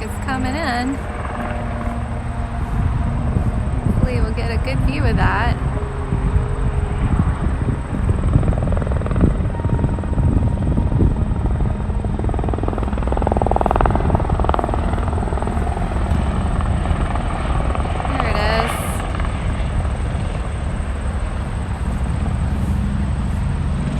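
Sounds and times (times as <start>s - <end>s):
helicopter rotor beating: 0.0s - 23.9s.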